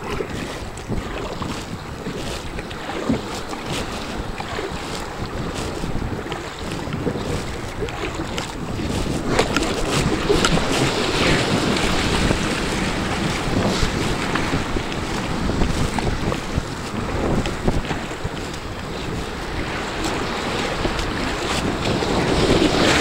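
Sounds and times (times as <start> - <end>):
choppy surf: 0.0 - 23.0
water splashing around kayak: 0.0 - 23.0
wind buffeting microphone: 0.0 - 23.0.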